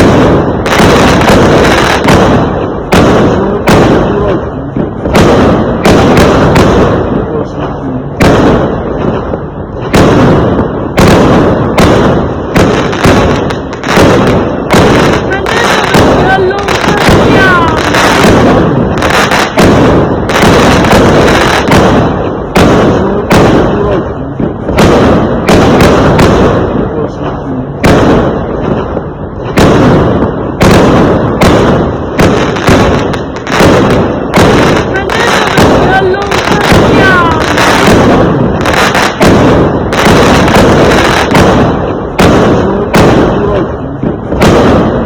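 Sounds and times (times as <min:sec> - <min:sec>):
fireworks exploding: 0:00.0 - 0:45.0.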